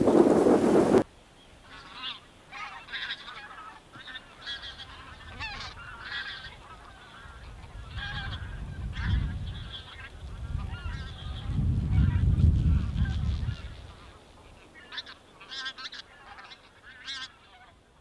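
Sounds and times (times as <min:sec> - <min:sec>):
geese honking: 0:01.6 - 0:18.0.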